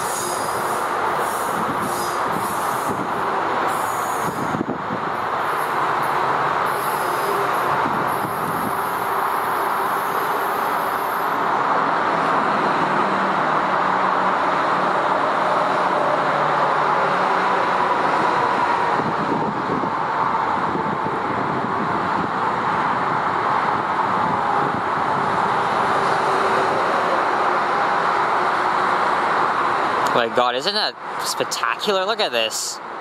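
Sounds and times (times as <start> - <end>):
vehicles rushing past: 0.0 - 33.0.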